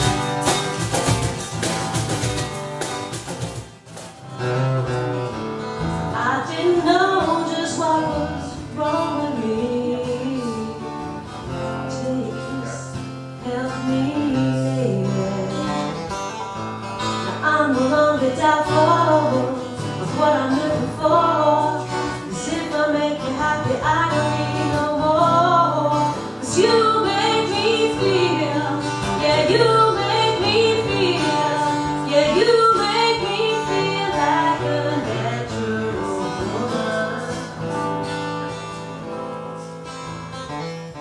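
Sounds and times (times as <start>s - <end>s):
acoustic guitar: 0.0s - 41.0s.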